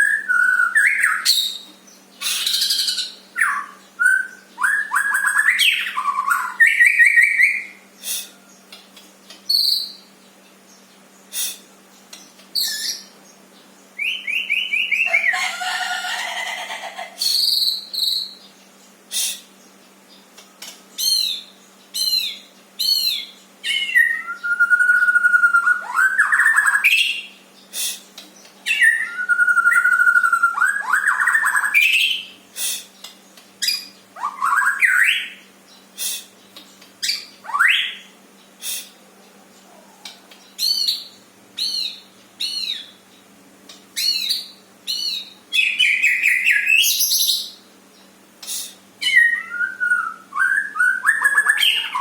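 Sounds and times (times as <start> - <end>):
bird singing: 0.0 - 52.0.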